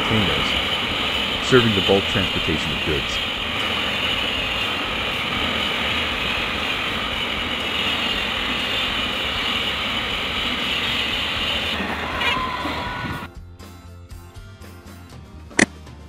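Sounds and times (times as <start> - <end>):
freight train wheels rolling: 0.0 - 13.3.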